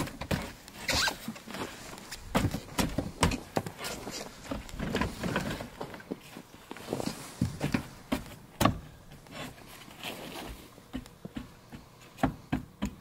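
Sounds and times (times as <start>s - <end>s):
rustling: 0.0s - 10.8s.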